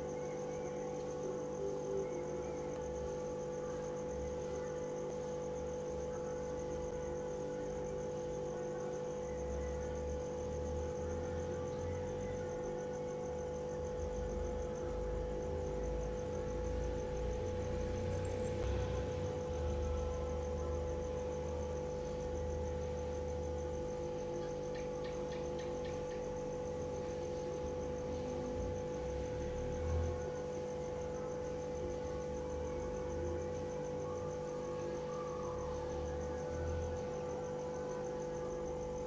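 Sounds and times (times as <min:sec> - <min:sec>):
background hum: 0:00.0 - 0:39.0
insects trilling: 0:00.0 - 0:39.0.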